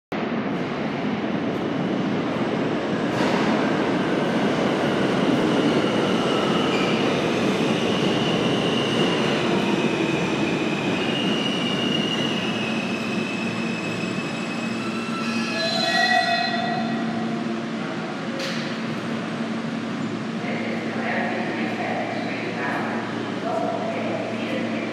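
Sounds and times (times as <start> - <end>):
subway train braking: 0.2 - 24.9.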